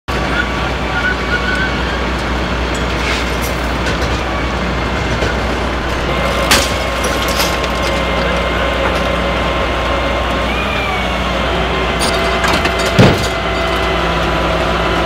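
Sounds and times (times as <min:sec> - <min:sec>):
truck engine running: 0:00.1 - 0:15.0.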